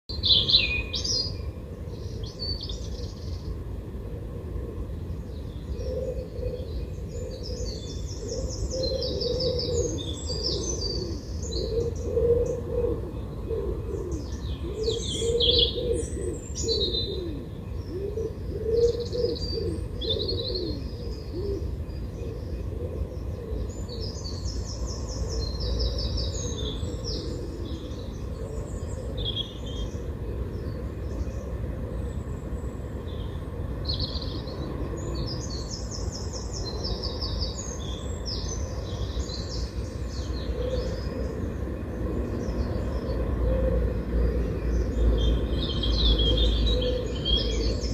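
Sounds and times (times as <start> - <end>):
small birds chirping: 5.3 - 43.4, 44.2 - 47.9.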